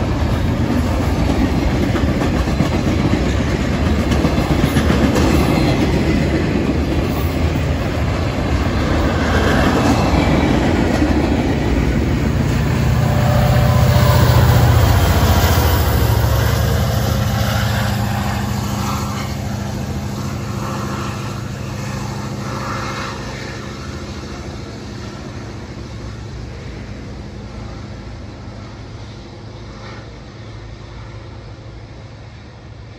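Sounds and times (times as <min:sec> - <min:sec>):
train wheels clattering on rails: 0:00.0 - 0:28.3
diesel locomotive engine hum: 0:00.0 - 0:32.9.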